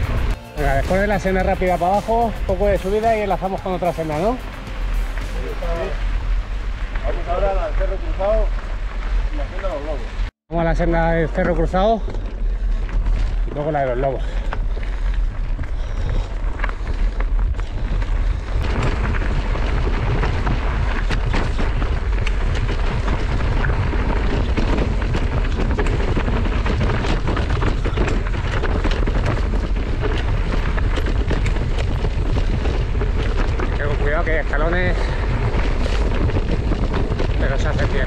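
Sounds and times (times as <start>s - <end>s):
tyres crunching over gravel: 0.0s - 10.3s, 11.1s - 38.0s
wind buffeting microphone: 0.0s - 10.4s, 11.2s - 38.0s
bike rattling over stones: 0.0s - 38.0s.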